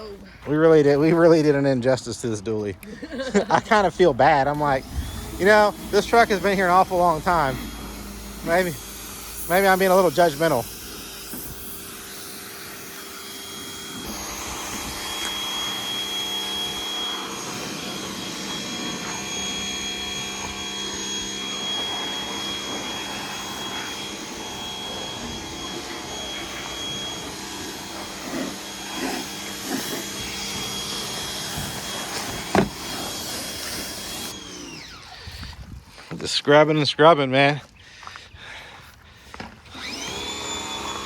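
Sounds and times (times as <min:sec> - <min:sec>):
pressure washer running: 0:03.1 - 0:36.1, 0:38.8 - 0:41.0.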